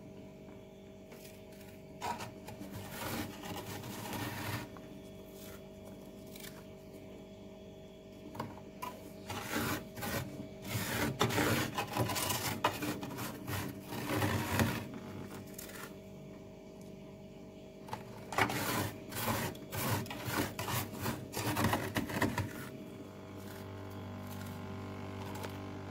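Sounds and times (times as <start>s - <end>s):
steady low hum: 0.0s - 25.9s
hand scraping freezer frost: 1.1s - 6.8s, 8.8s - 16.0s, 17.9s - 25.9s.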